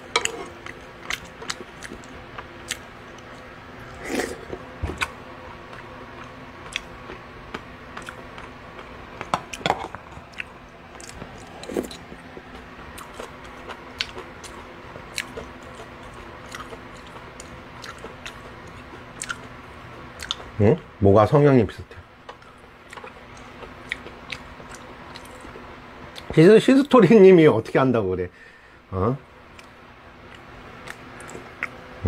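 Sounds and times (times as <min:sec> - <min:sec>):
man chewing soup: 0:00.0 - 0:20.6, 0:22.2 - 0:26.3, 0:29.5 - 0:31.9.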